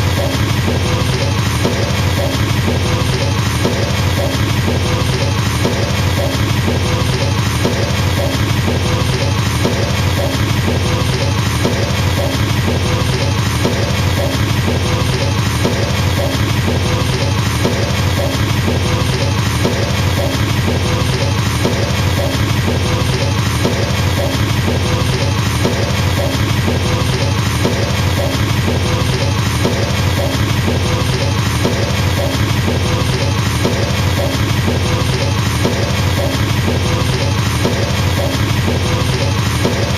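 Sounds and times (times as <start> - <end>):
fast double bass drumming: 0.0 - 39.9.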